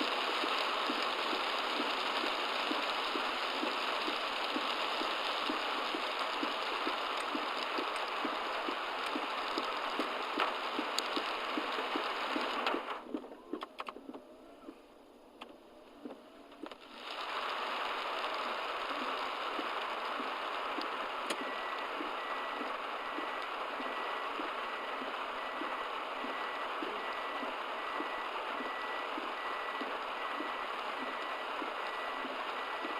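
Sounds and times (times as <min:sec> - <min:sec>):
low regular ticking: 0:00.0 - 0:14.2, 0:17.9 - 0:32.9
heavy rain on car roof: 0:00.0 - 0:14.8, 0:15.4 - 0:32.9.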